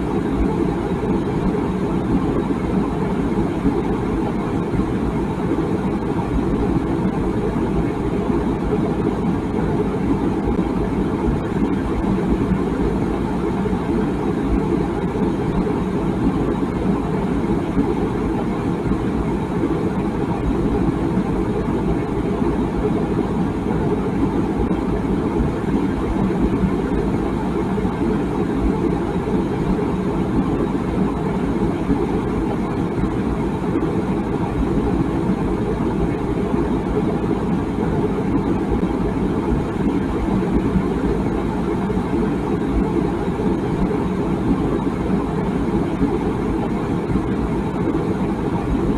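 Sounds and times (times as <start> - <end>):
water boiling in kettle: 0.0 - 48.9.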